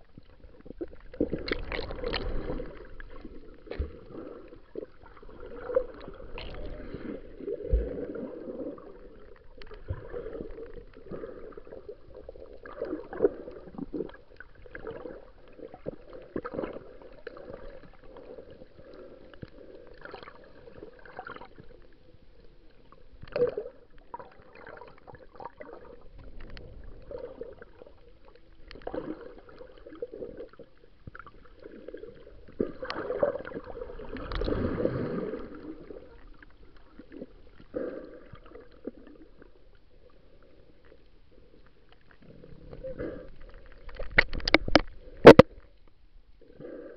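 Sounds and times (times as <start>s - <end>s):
water swishing and gurgling: 0.0s - 46.9s.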